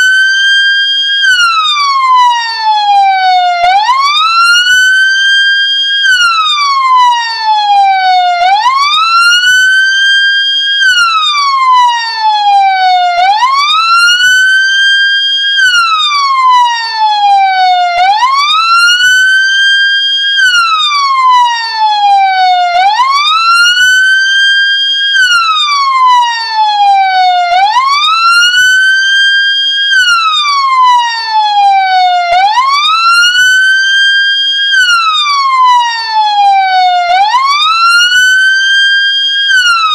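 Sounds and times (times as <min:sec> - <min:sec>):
ambulance siren wailing: 0:00.0 - 0:39.9.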